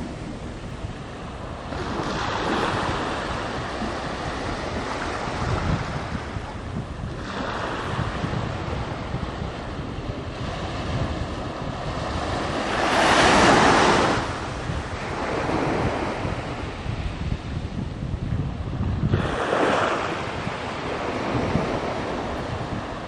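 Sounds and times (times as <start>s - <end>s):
sea water rushing: 0.0s - 18.0s, 19.0s - 23.0s
wind: 0.0s - 23.0s.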